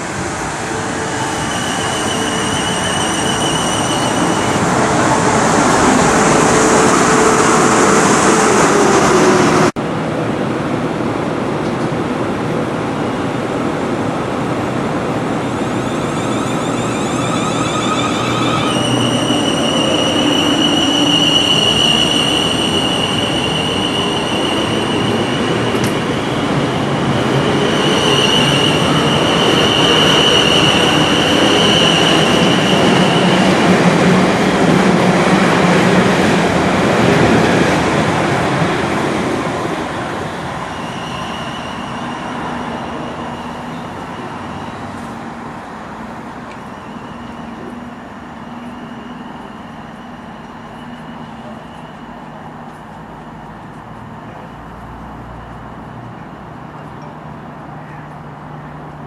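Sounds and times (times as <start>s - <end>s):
high whine of train: 0.0s - 59.0s
passenger train rumbling past: 0.0s - 59.0s.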